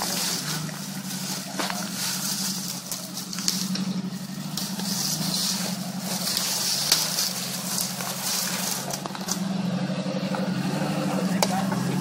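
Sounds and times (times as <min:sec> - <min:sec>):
engine running at low revs: 0:00.0 - 0:12.0
leaves and stones crackling under tyres: 0:00.0 - 0:12.0.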